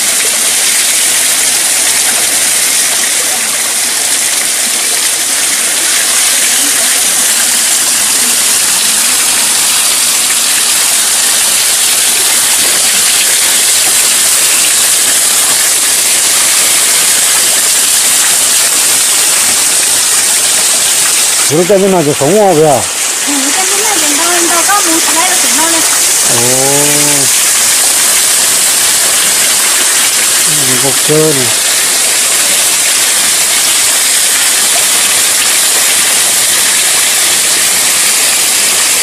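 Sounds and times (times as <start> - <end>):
waterfall splashing into rock pool: 0.0 - 39.0.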